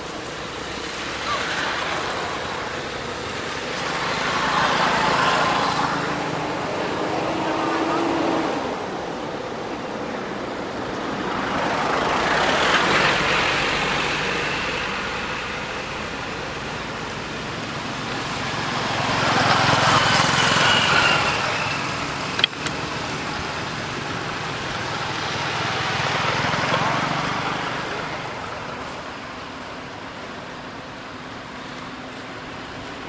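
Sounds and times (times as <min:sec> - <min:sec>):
steady traffic hum: 0:00.0 - 0:33.0
vehicles passing: 0:00.0 - 0:33.0.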